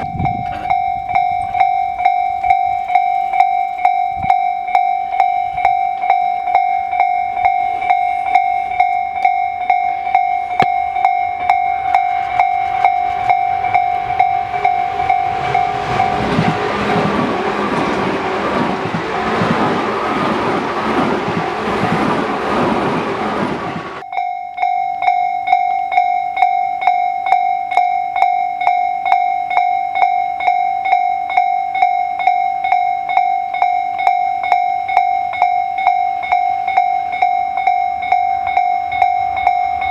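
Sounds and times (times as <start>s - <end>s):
level-crossing bell ringing: 0.0s - 39.9s
train passing: 0.0s - 39.9s.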